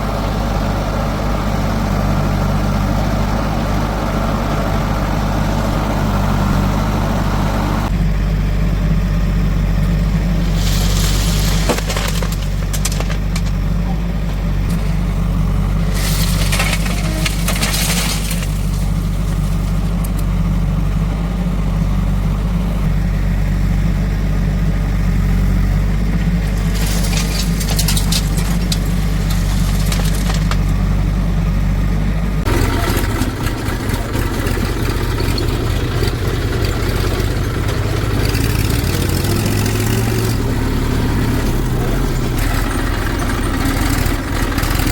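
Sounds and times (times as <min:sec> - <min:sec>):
diesel engine running: 0:00.0 - 0:44.9
earth crunching and scraping: 0:08.8 - 0:44.9.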